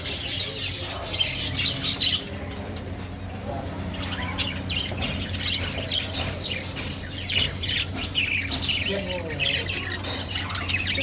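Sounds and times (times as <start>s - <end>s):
small birds chirping and squawking: 0.0s - 11.0s.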